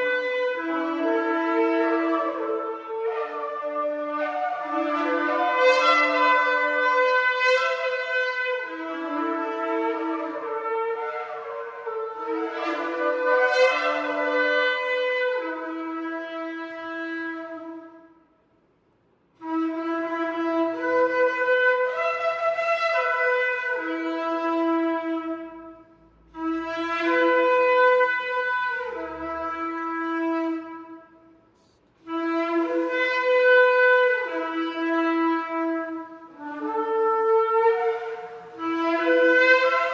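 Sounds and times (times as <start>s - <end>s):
ram's horn blasts: 0.0s - 17.9s, 19.4s - 39.9s.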